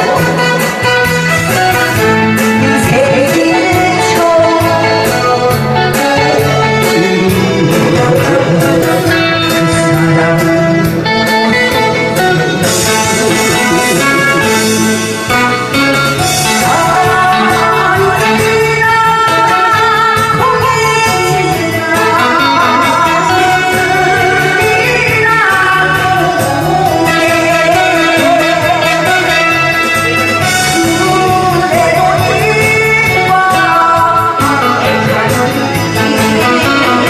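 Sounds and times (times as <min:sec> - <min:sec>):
electric guitar: 0:00.0 - 0:37.0
keyboard backing with beat: 0:00.0 - 0:37.0.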